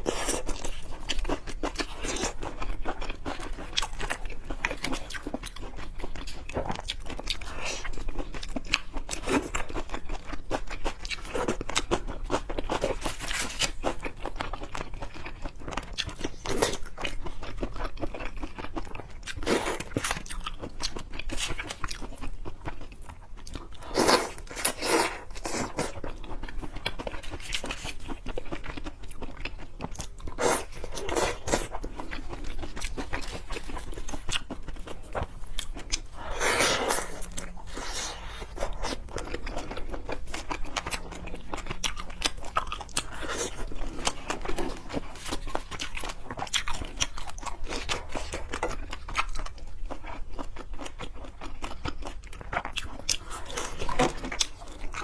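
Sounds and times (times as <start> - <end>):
wet chewing and biting: 0.0 - 55.0.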